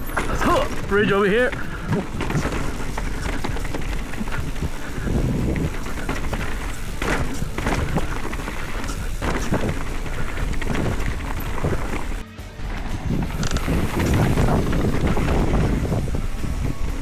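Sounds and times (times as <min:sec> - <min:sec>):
bike knocking on bumps: 0:00.0 - 0:17.0
mountain bike rattling: 0:00.0 - 0:17.0
wind rushing over microphone: 0:00.0 - 0:17.0.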